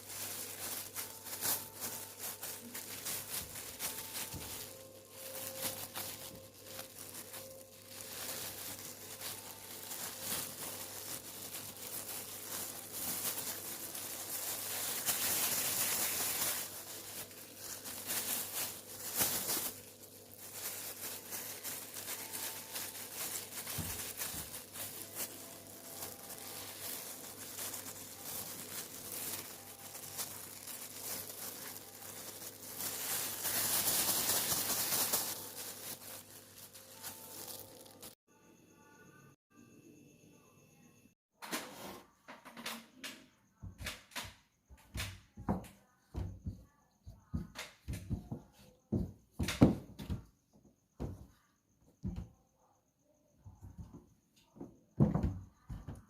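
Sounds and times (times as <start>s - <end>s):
rustling and crinkling: 0.0s - 38.2s, 43.6s - 52.3s, 53.5s - 56.0s.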